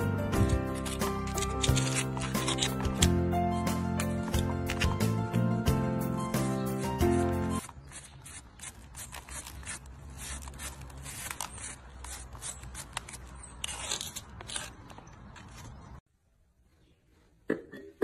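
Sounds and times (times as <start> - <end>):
hoof pick scraping hoof: 0.0 - 5.3, 6.4 - 15.9.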